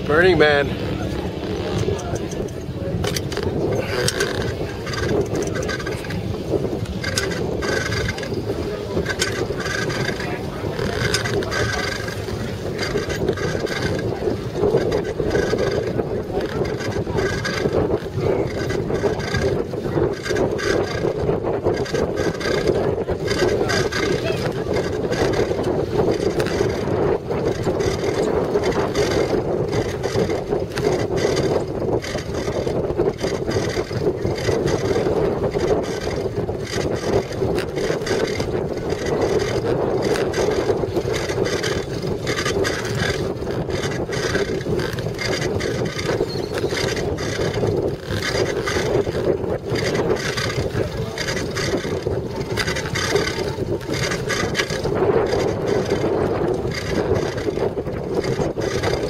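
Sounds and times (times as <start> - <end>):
bicycle rattling over dirt: 0.0 - 59.0
wind buffeting microphone: 0.0 - 59.0.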